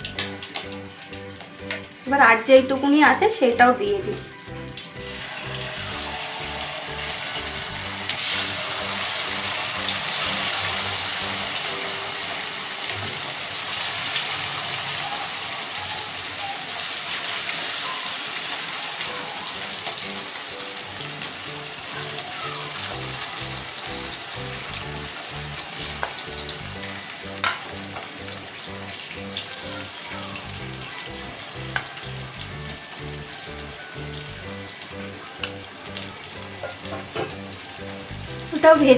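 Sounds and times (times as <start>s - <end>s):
chicken deep-frying in oil: 0.0s - 38.9s.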